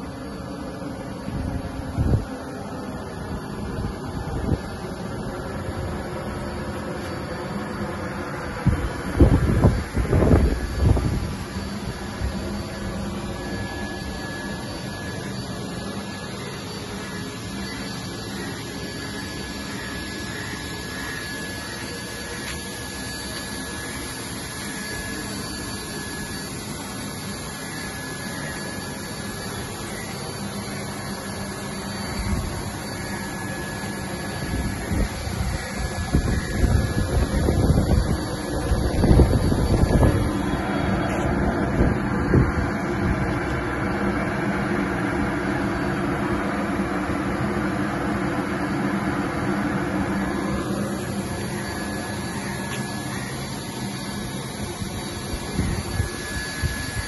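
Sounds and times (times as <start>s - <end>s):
faint high whine: 0.0s - 57.0s
mechanical hum: 0.0s - 57.0s.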